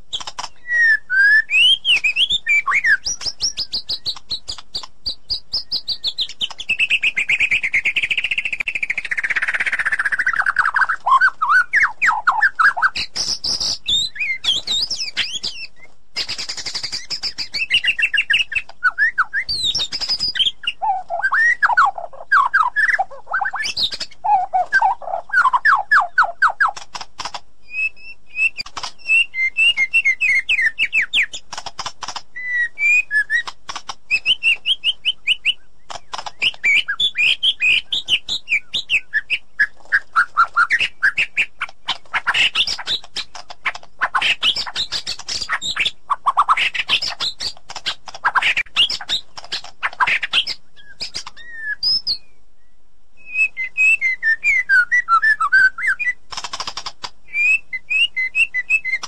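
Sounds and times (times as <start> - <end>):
bird singing trills: 0.0 - 59.0.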